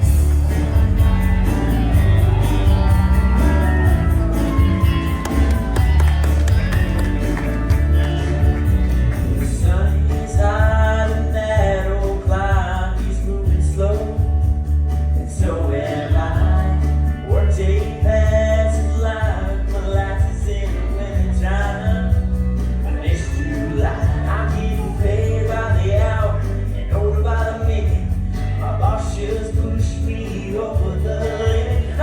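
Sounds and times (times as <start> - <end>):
heavy bass line: 0.0 - 32.0
singer performing over a band: 0.0 - 32.0.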